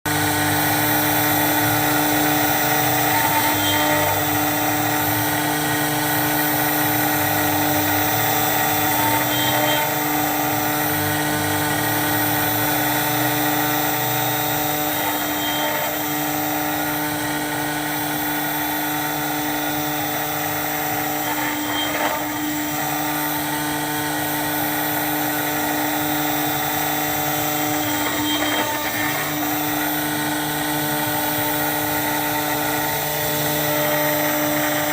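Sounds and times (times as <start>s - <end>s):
cutter milling plastic: 0.1s - 34.9s
router spindle running: 0.1s - 34.9s.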